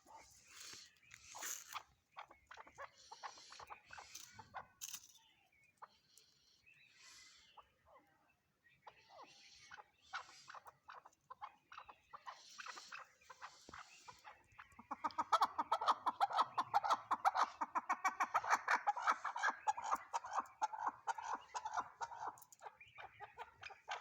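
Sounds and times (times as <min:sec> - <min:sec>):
partridge calling: 0:00.0 - 0:04.6, 0:08.8 - 0:24.0.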